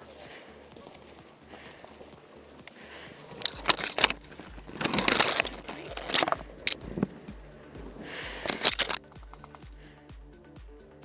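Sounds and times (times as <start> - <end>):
dry leaves crunching underfoot: 0.0 - 9.0
twigs snapping: 0.0 - 9.8.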